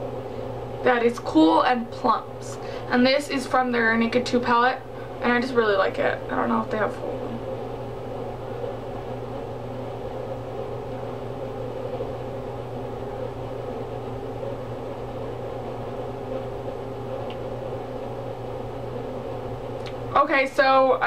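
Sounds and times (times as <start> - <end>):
machine-like hum with hiss: 0.0 - 21.0.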